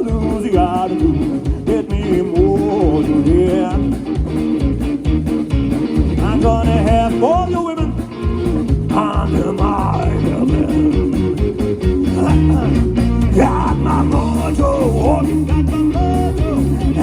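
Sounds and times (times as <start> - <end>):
blues-rock band playing: 0.0 - 17.0
electric guitar lead bending notes: 0.0 - 17.0.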